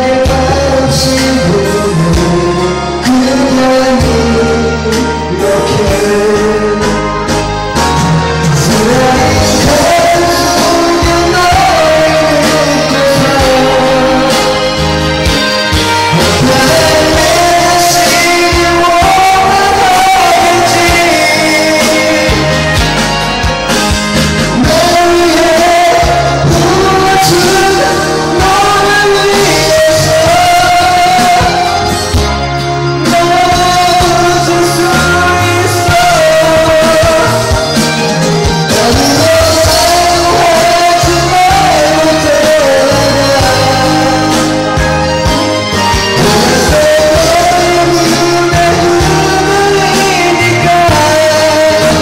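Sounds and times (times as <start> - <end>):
karaoke backing track: 0.0 - 52.0
person singing: 0.0 - 52.0.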